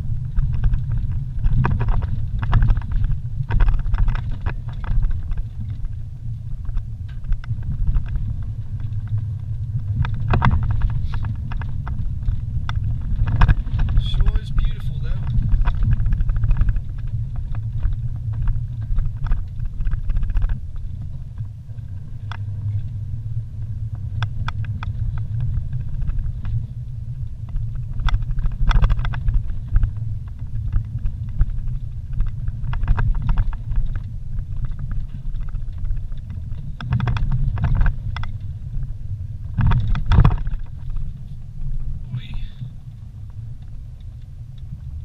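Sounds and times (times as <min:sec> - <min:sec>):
vehicle rumble inside cabin: 0:00.0 - 0:45.0.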